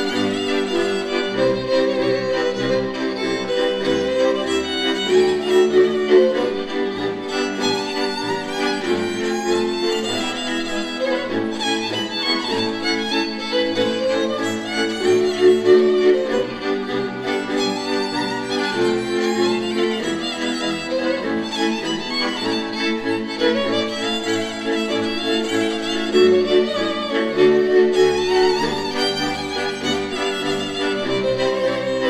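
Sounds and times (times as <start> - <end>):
folk string band playing: 0.0 - 32.0.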